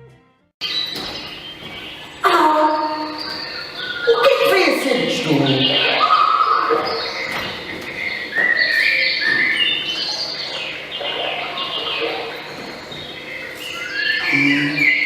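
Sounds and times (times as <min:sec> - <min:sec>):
birds chirping and singing: 0:00.6 - 0:15.0.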